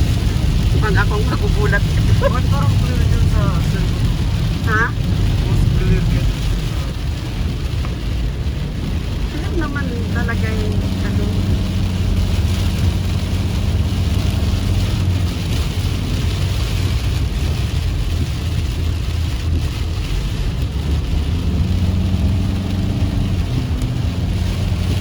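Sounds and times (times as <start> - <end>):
car engine and tyre rumble: 0.0 - 25.0
rain and spray hiss: 0.0 - 25.0.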